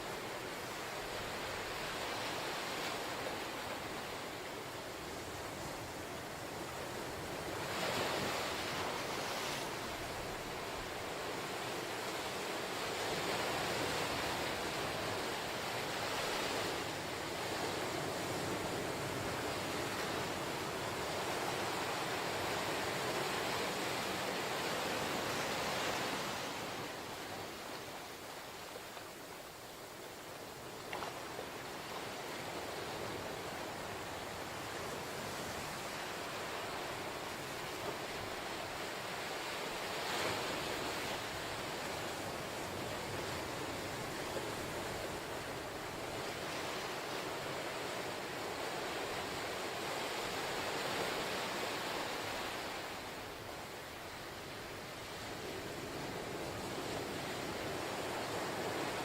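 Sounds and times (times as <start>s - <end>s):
ocean surf washing ashore: 0.0s - 59.0s.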